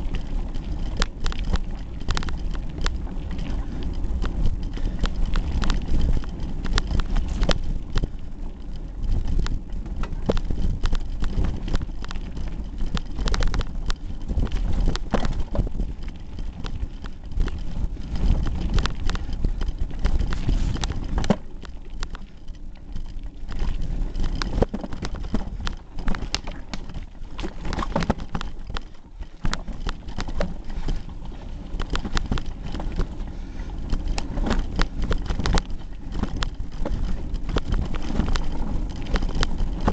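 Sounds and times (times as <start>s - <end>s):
bike rattling and knocking: 0.0s - 39.9s
deep rumble: 0.0s - 39.9s.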